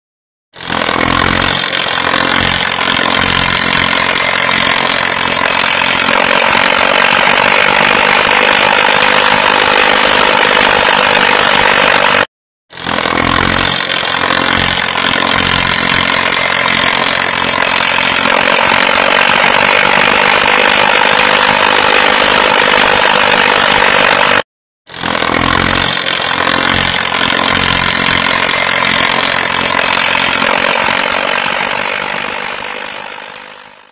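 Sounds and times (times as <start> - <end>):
tractor diesel engine under load: 0.5 - 33.9.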